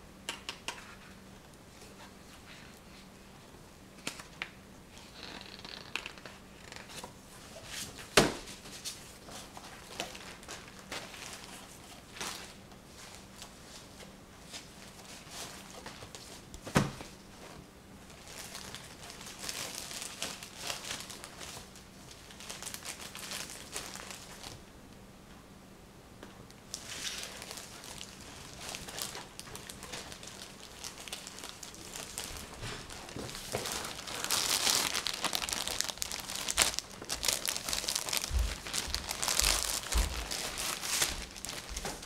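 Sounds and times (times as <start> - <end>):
crinkling and rustling: 4.0 - 24.6, 26.7 - 42.0.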